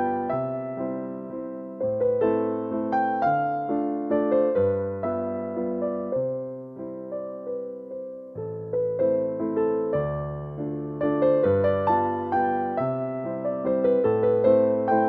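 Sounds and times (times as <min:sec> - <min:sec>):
soft electric piano chords: 0:00.0 - 0:15.0.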